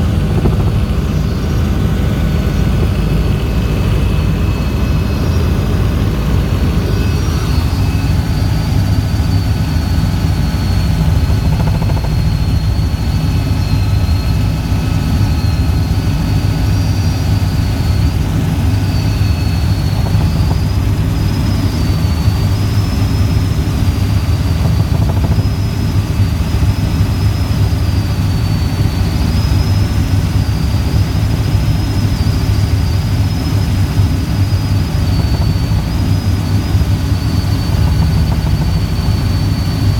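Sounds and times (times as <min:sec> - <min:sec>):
helicopter droning: 0:00.0 - 0:39.9
high whine: 0:00.0 - 0:39.9.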